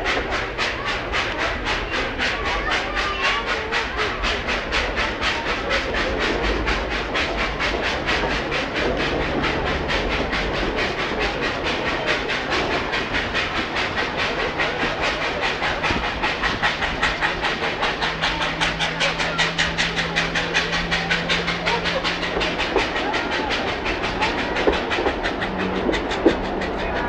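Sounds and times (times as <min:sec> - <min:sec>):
coaches rumbling on rails: 0:00.0 - 0:27.0
steam locomotive exhaust chuffing: 0:00.0 - 0:27.0.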